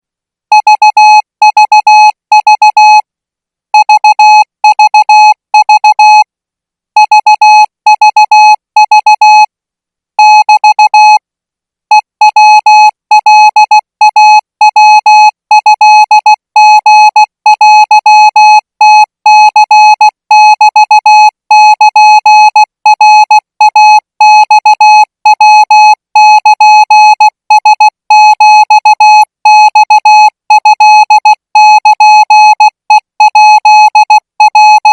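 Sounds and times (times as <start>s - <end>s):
morse code beeps: 0.6s - 3.0s, 3.8s - 6.2s, 7.0s - 9.5s, 10.2s - 11.2s, 11.9s - 34.9s.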